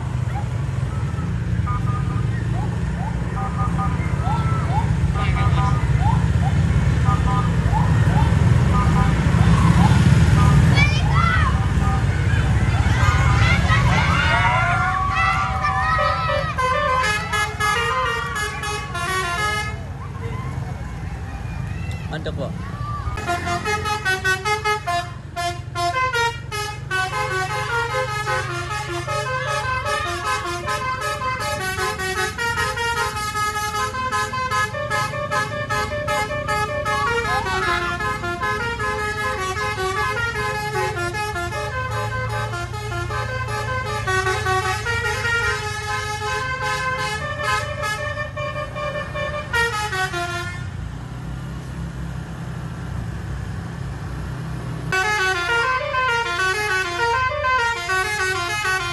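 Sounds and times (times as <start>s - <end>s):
bus engine running: 0.0s - 58.9s
multi-tone bus horn melody: 0.9s - 20.0s, 23.2s - 51.0s, 54.9s - 58.9s.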